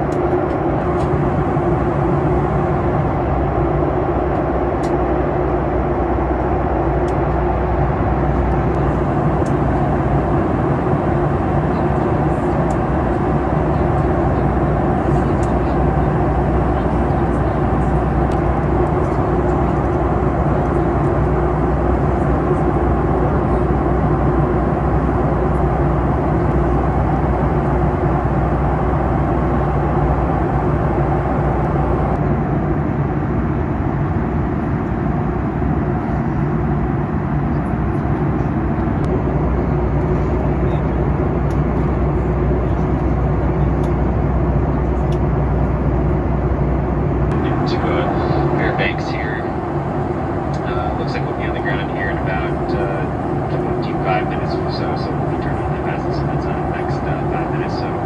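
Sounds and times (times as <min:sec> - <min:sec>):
airplane cabin airflow rumble: 0:00.0 - 0:58.0
low hum: 0:00.0 - 0:58.0.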